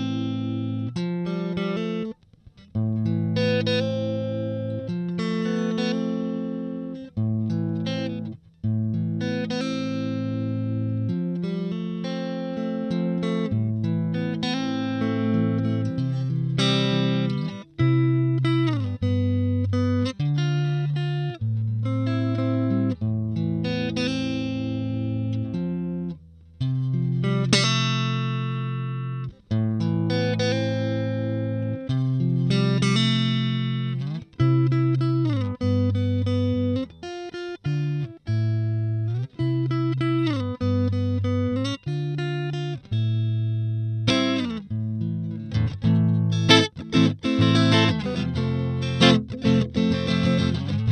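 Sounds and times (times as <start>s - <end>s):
electric guitar chords: 0.0s - 50.9s.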